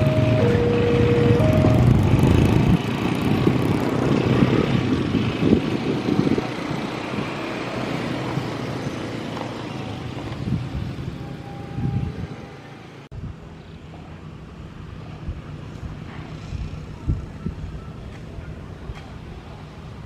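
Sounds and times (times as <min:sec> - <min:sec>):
diesel train rumbling past: 0:00.0 - 0:20.0.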